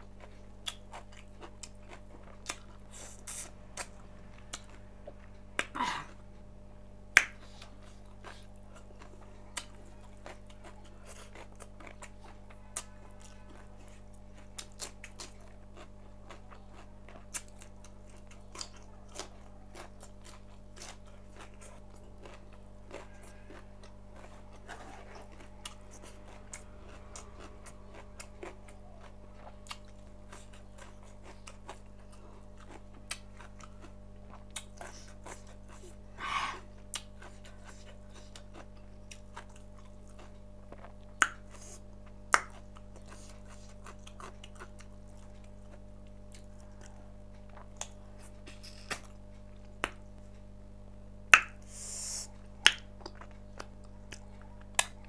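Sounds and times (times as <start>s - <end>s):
low electrical hum: 0.0s - 55.0s
chewing with wet mouth clicks: 0.1s - 5.7s, 7.1s - 36.0s, 36.8s - 50.1s, 52.6s - 55.0s.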